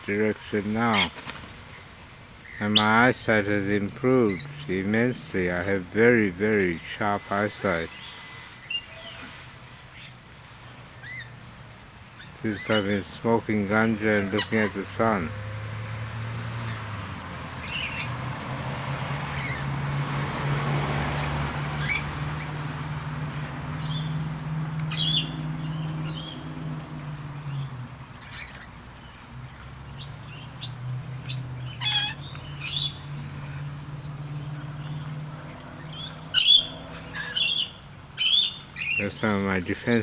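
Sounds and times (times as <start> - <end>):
birds squawking and chirping: 0.0 - 40.0.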